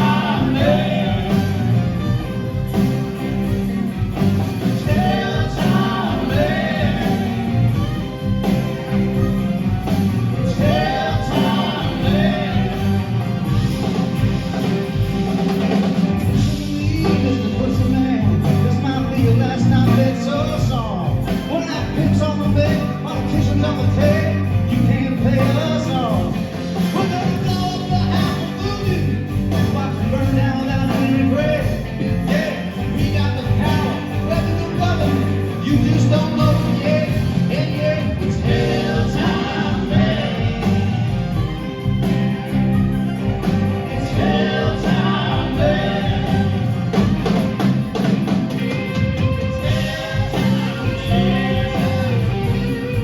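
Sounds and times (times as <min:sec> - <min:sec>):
live rock band playing: 0:00.0 - 0:53.0
wavering melodic lead line: 0:00.0 - 0:53.0.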